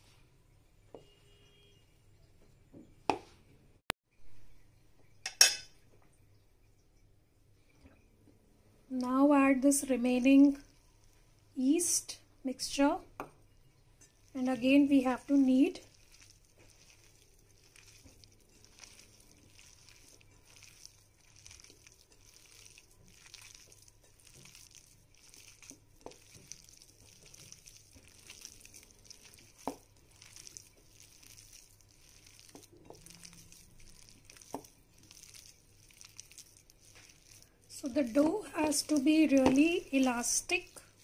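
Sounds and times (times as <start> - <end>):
dough squishing as kneaded: 7.6 - 41.0.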